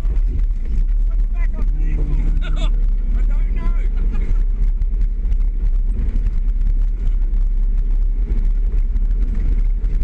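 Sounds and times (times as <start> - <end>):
engine and tyres rumbling: 0.0 - 10.0.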